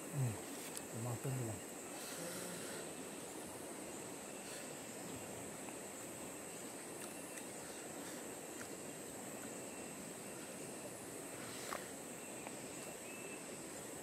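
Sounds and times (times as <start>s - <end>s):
outdoor hiss: 0.0s - 14.0s.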